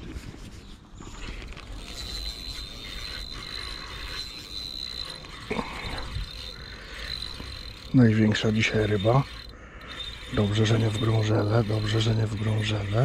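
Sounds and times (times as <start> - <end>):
fishing reel ratcheting whir: 1.1 - 13.0.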